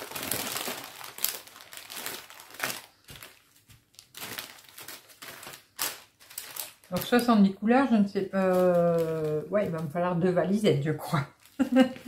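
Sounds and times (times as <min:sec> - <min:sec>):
plastic bags crinkling: 0:00.0 - 0:07.6, 0:08.2 - 0:10.0, 0:11.2 - 0:12.0.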